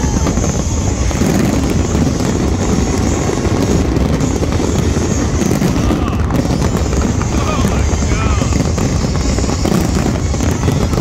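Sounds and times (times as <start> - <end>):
fireworks rumbling barrage: 0.0 - 11.0.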